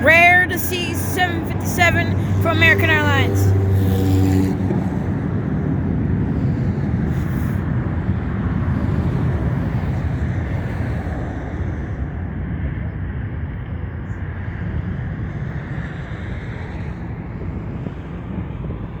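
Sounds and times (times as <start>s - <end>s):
jet airliner climbing rumble: 0.0s - 19.0s.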